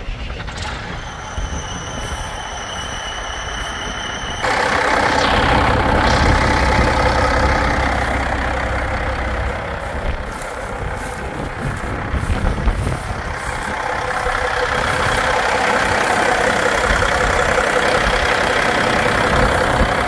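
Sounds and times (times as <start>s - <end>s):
diesel truck engine idling: 0.4s - 20.0s.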